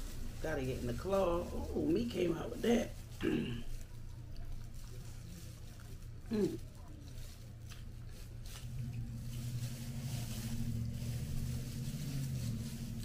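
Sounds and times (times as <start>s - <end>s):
gloved hands digging through plastic bag: 0.0s - 13.0s
plastic crinkling: 0.0s - 13.0s
steady low hum: 0.0s - 13.0s.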